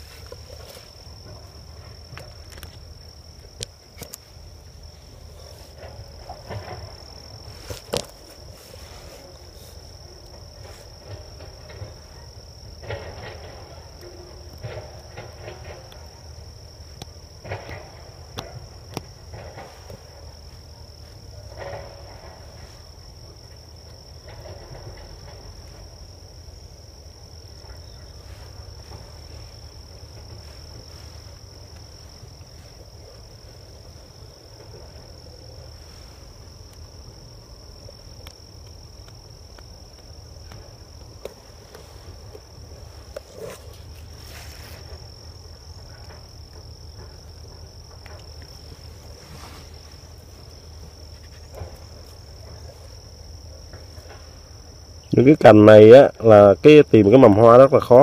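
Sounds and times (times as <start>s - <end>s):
handling clicks and rustles: 0.0s - 54.5s
insects trilling: 0.0s - 58.0s.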